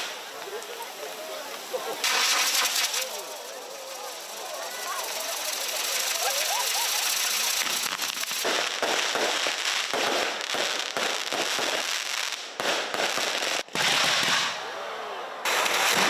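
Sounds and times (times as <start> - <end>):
fireworks hissing crackle: 0.0 - 14.6, 15.4 - 16.0.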